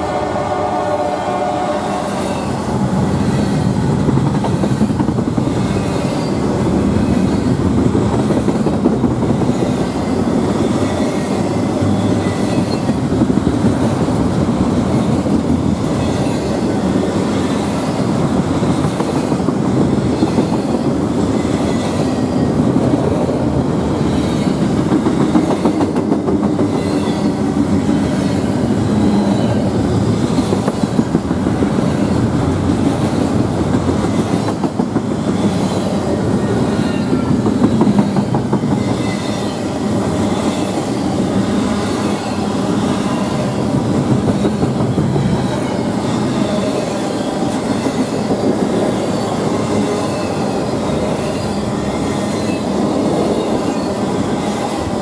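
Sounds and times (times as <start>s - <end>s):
freight train wheels rumbling: 0.0s - 55.0s
wheels clickety-clack: 2.9s - 55.0s.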